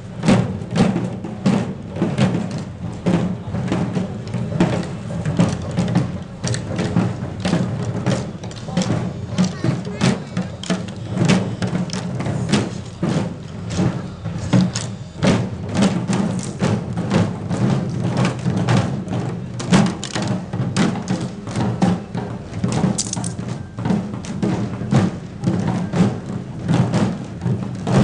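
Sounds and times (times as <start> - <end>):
drums beaten fast: 0.0 - 28.0.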